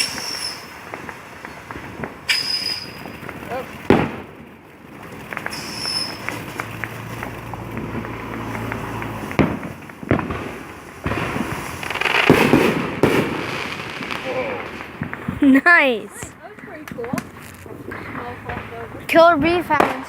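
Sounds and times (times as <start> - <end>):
fireworks crackling pops: 0.0 - 20.0
fireworks sharp bangs: 0.0 - 20.0.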